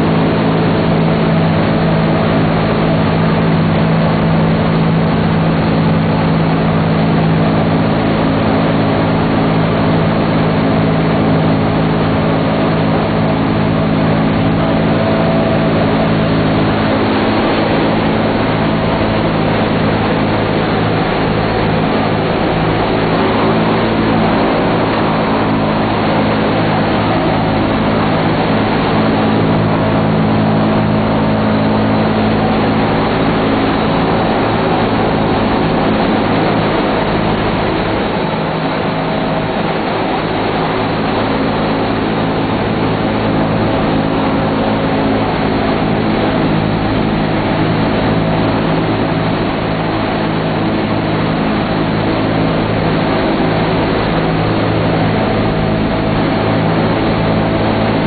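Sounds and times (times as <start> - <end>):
propeller engines droning: 0.0 - 58.0
rush of air and airframe noise: 0.0 - 58.0.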